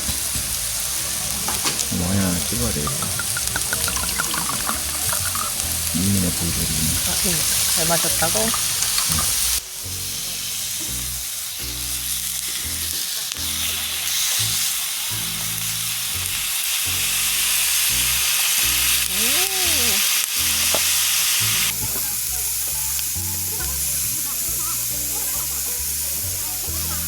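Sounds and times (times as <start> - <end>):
background music: 0.0 - 27.0
food sizzling in a hot pan: 0.0 - 27.0.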